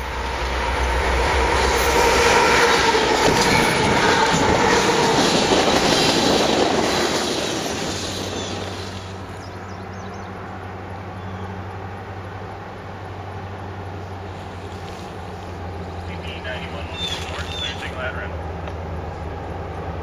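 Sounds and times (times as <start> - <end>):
freight train rumbling over rails: 0.0 - 20.0.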